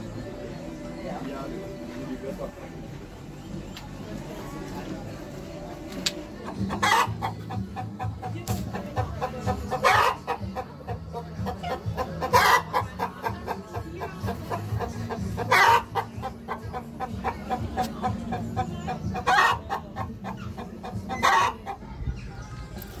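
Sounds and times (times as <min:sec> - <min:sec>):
chicken clucking: 0:03.4 - 0:23.0.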